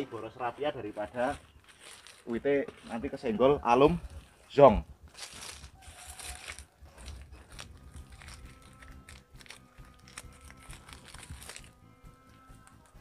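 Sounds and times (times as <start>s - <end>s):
faint background music: 0.0s - 13.0s
plastic twine crinkling: 0.4s - 3.3s, 3.9s - 13.0s.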